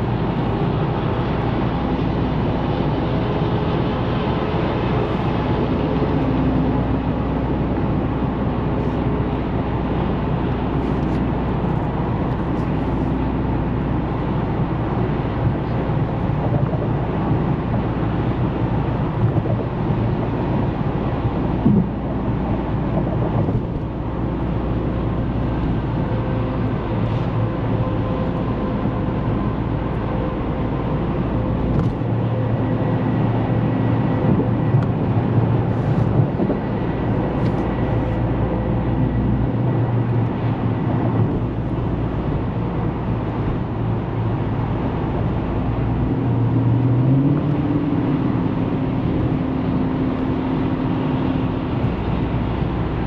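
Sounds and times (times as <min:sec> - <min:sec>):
car engine cruising: 0:00.0 - 0:53.0
road noise in cabin: 0:00.0 - 0:53.0.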